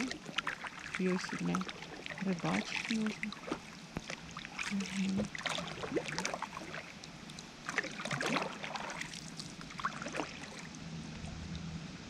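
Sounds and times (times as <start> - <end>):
paddle splashing in water: 0.0 - 11.6
faint low hum: 0.0 - 12.0.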